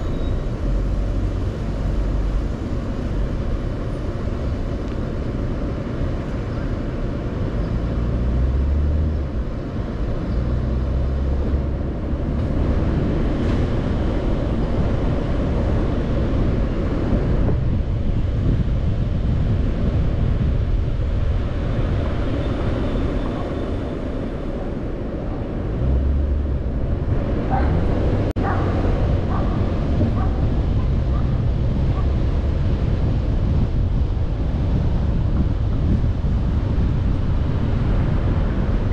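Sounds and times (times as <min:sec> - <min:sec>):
car engine and tyre drone: 0:00.0 - 0:38.9
deep engine hum: 0:00.0 - 0:38.9.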